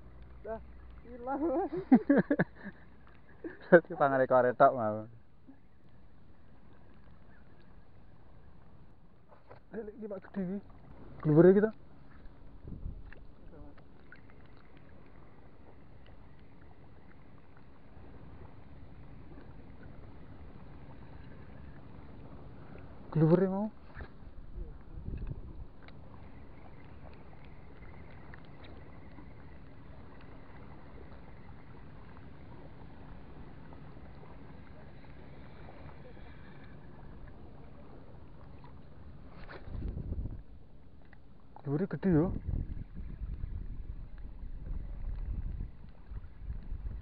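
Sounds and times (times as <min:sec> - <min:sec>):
low steady rumble: 0:00.0 - 0:47.0
sea water lapping: 0:00.0 - 0:47.0
small water splashes: 0:00.0 - 0:47.0.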